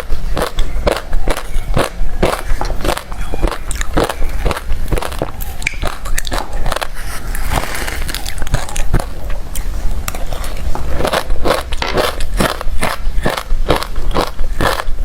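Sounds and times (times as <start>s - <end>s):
crunchy ice being chewed: 0.0s - 15.0s.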